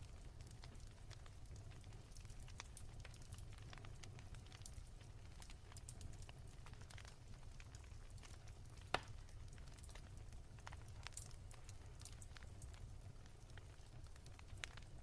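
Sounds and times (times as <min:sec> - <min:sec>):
wood fire crackling softly: 0:00.0 - 0:15.0.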